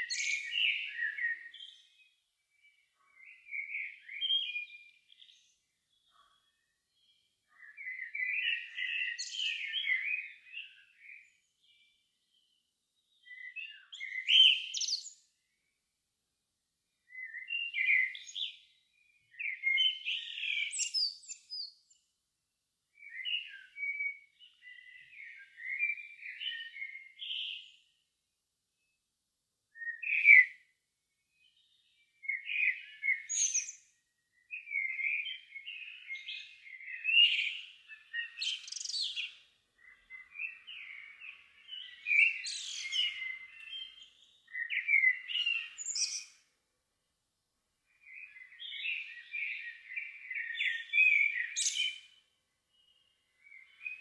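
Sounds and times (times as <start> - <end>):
songbird singing warbled phrases: 0.0 - 15.7, 17.0 - 22.1, 23.0 - 28.0, 29.7 - 30.7, 31.3 - 46.6, 47.9 - 54.0.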